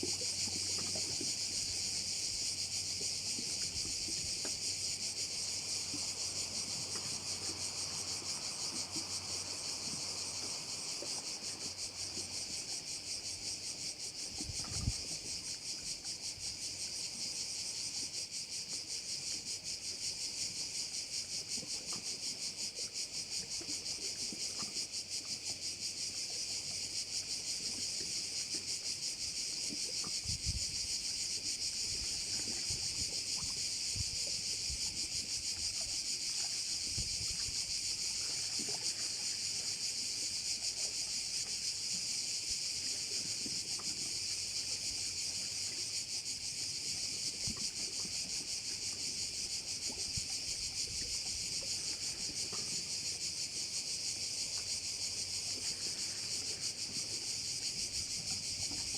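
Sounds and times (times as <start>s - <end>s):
cicadas shrilling: 0.0s - 58.9s.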